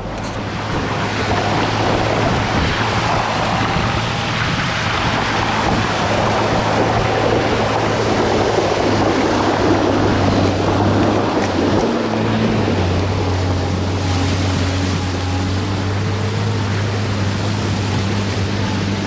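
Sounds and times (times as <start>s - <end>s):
loud rushing noise: 0.0s - 19.0s
vehicle engine droning: 0.0s - 19.0s.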